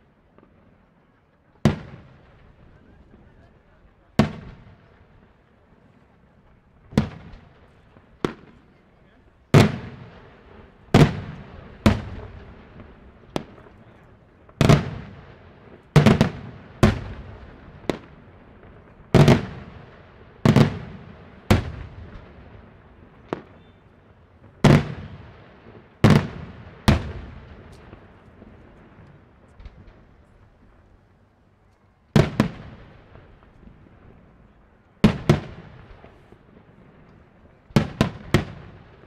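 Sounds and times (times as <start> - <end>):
fireworks bangs with echo: 0.0 - 30.9, 32.1 - 39.0.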